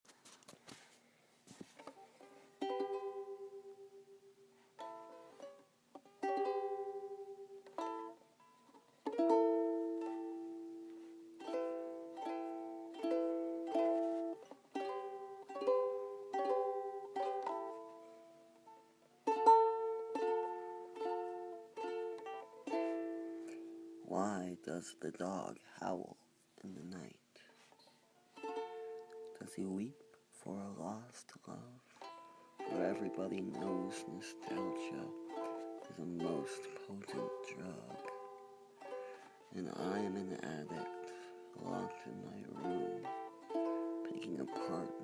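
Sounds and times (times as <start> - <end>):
ukulele chords strummed: 1.5 - 45.0.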